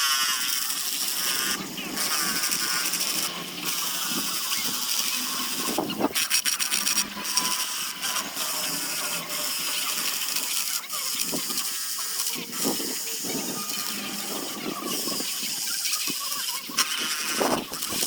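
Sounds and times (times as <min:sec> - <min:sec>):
sandpaper sanding wood: 0:00.0 - 0:18.0.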